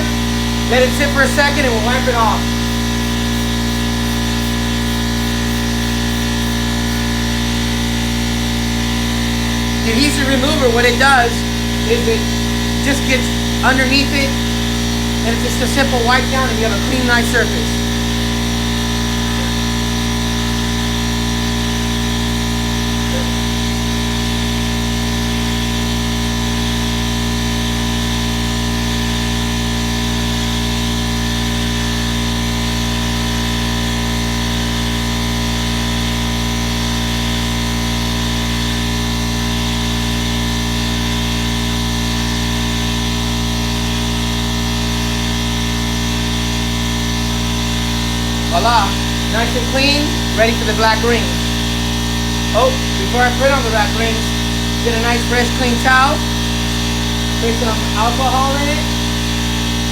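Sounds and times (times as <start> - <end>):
machine droning: 0.0 - 59.9.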